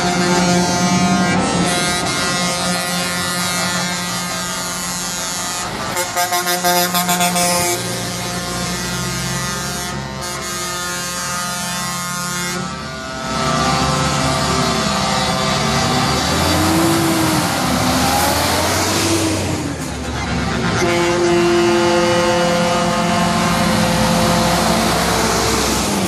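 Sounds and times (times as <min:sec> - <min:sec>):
truck diesel engines passing: 0:00.0 - 0:26.0.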